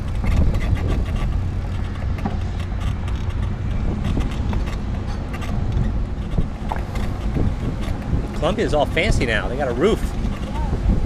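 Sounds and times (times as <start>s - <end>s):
bike clicks and rattles: 0.0s - 11.0s
tyres rumbling on pavement: 0.0s - 11.0s
wind on microphone: 0.0s - 11.0s.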